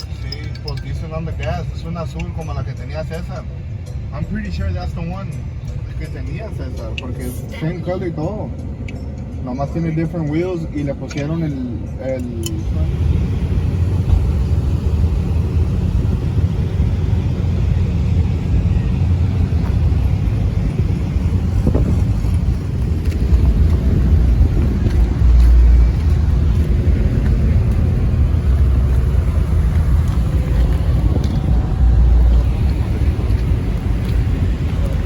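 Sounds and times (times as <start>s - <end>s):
vehicle engines rumbling: 0.0s - 35.0s.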